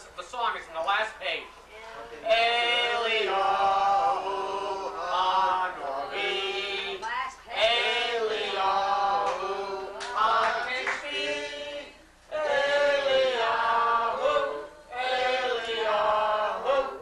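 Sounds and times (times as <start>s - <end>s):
group of voices singing: 1.8s - 17.0s.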